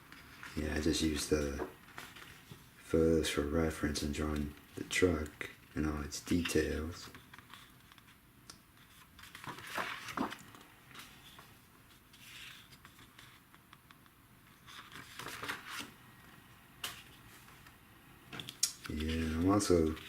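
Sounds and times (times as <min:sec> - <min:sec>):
paper rustling: 0:00.0 - 0:05.6, 0:06.2 - 0:08.2, 0:08.8 - 0:20.0.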